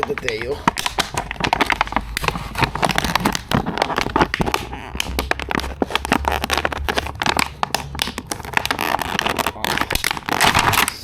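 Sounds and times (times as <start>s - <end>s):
tools and packaging crackling: 0.0s - 11.0s.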